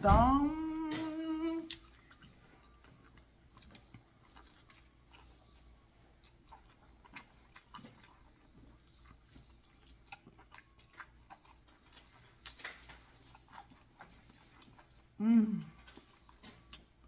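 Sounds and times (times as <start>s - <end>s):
chewing crispy food: 0.8s - 17.0s.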